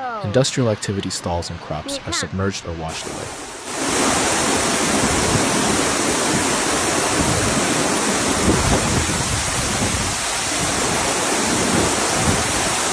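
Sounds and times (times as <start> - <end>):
floodwater rushing: 0.3 - 12.9.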